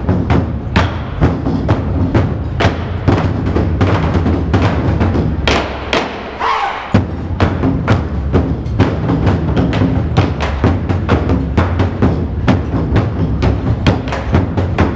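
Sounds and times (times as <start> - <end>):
barrel drums beaten with sticks: 0.0 - 14.9.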